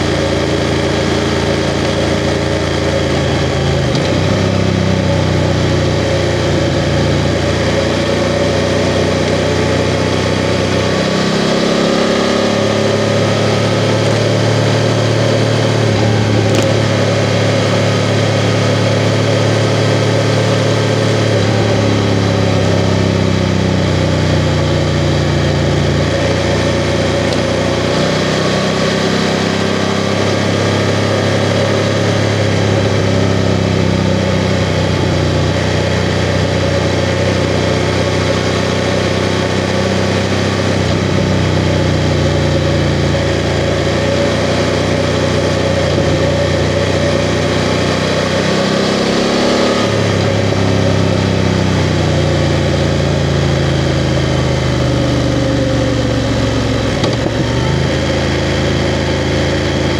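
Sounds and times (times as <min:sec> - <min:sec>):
motorcycle engine running: 0:00.0 - 0:59.9
road noise: 0:00.0 - 0:59.9.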